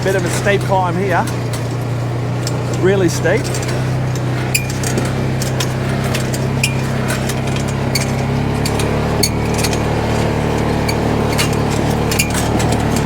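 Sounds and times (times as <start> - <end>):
light clicks and rattles: 0.0 - 13.0
single-cylinder engine pulling uphill: 0.0 - 13.0.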